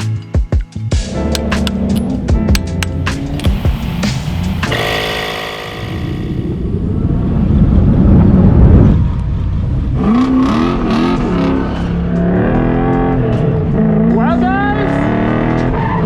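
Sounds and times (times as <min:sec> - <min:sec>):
car engine revving: 0:01.0 - 0:16.0.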